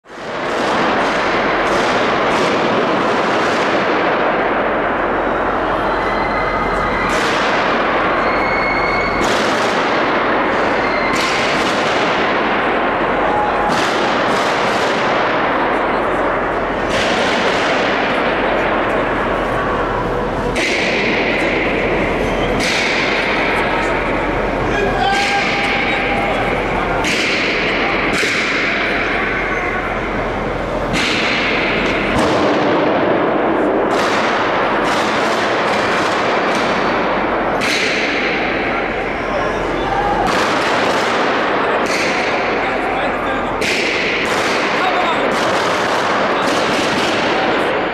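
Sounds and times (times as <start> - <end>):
steady background din: 0.0 - 47.9
gunshots echoing: 0.1 - 5.8, 6.7 - 29.4, 30.8 - 39.4, 40.1 - 47.9.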